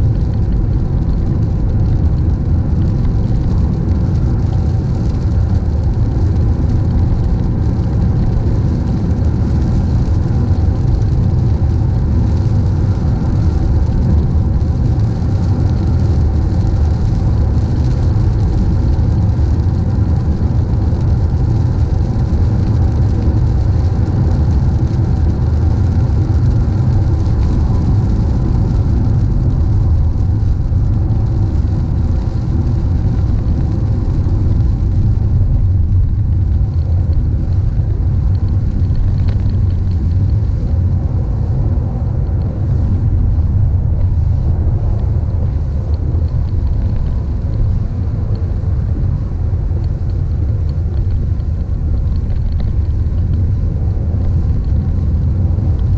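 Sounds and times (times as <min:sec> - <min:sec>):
car road and engine rumble: 0:00.0 - 0:55.9
tyre hiss on wet road: 0:00.0 - 0:55.9.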